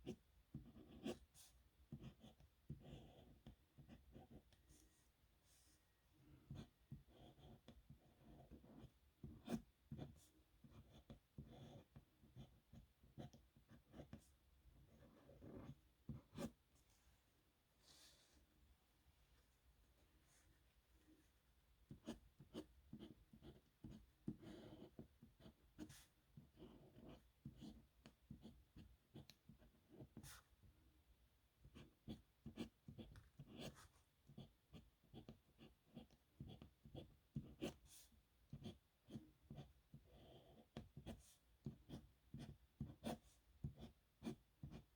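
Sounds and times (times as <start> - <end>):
pen scratching on paper: 0.0 - 5.7, 6.3 - 16.6, 21.9 - 30.5, 31.6 - 44.9.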